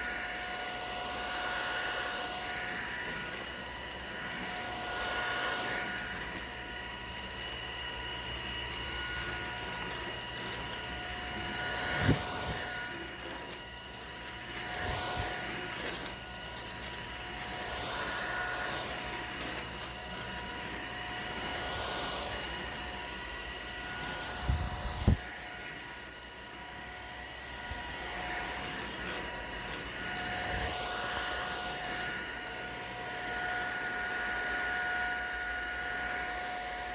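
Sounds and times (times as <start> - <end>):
stick vacuum running: 0.0 - 36.9.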